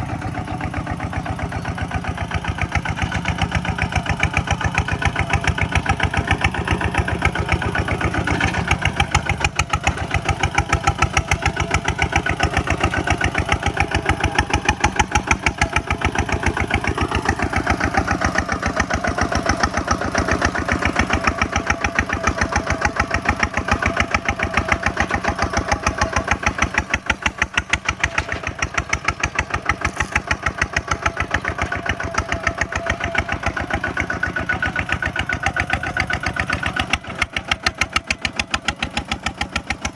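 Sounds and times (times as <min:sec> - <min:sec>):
single-cylinder diesel engine running: 0:00.0 - 0:39.9.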